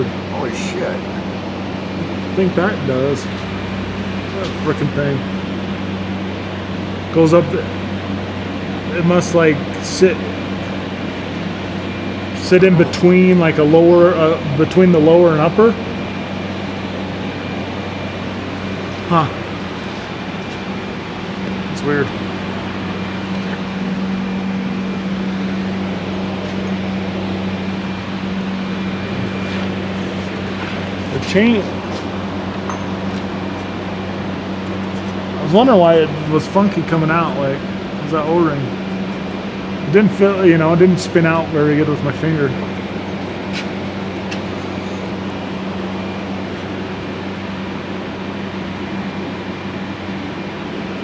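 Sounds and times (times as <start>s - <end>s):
fan humming and blowing air: 0.0s - 51.0s.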